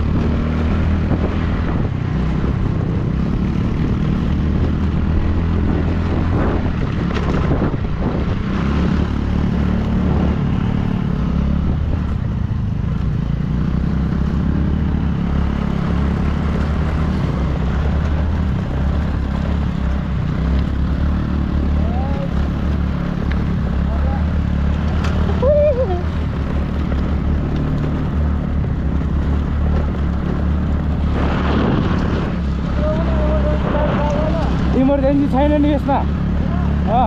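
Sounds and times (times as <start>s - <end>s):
road and wind noise: 0.0s - 37.0s
vehicle engine humming: 0.0s - 37.0s.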